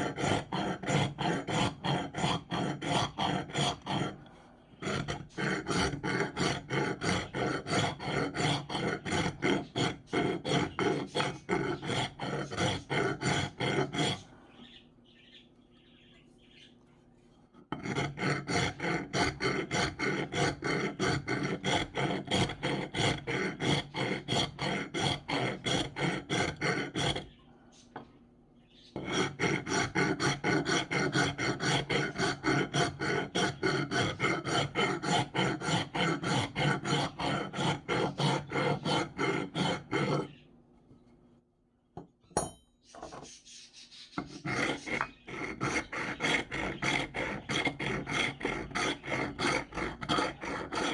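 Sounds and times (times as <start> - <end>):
hand tool rasping strokes: 0.0 - 4.2, 4.8 - 14.2, 17.7 - 27.2, 29.0 - 40.3, 44.2 - 50.9.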